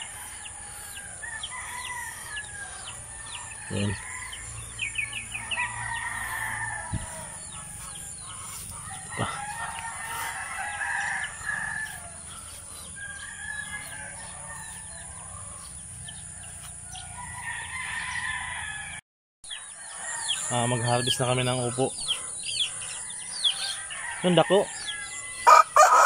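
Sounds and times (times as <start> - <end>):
chickens clucking: 0.0 - 17.4, 20.5 - 26.0
small birds chirping: 0.0 - 18.5, 19.5 - 25.8
rooster crowing: 0.0 - 19.0, 19.7 - 26.0.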